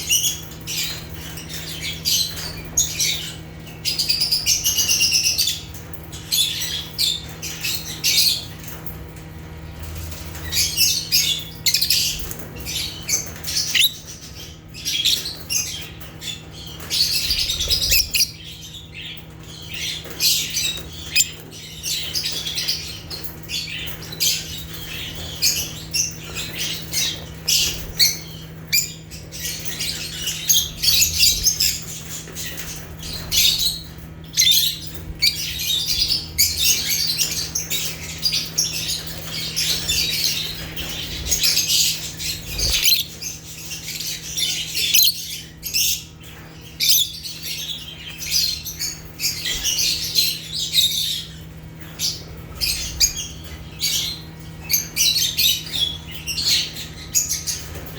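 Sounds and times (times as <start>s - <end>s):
lovebirds chirping and squawking: 0.0s - 57.9s.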